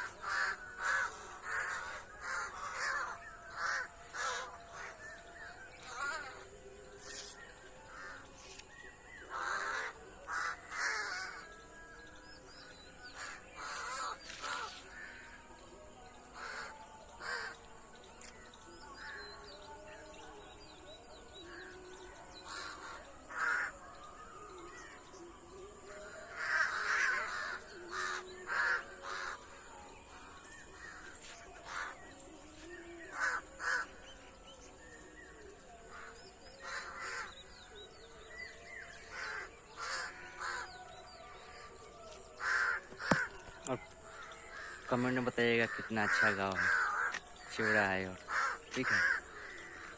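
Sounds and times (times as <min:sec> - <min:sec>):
birds calling: 0:00.0 - 0:15.4, 0:21.4 - 0:25.2, 0:26.3 - 0:49.9.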